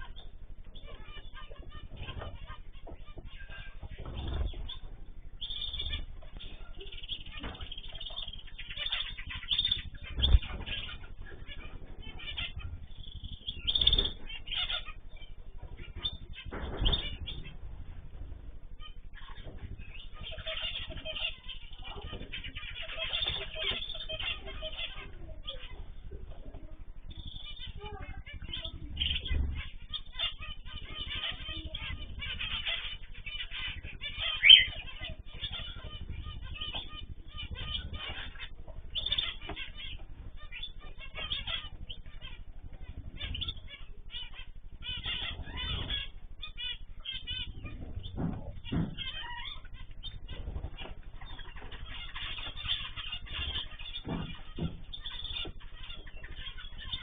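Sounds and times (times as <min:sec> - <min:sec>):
bird chirps: 0:00.0 - 0:57.0
birds fluttering wings: 0:00.0 - 0:57.0.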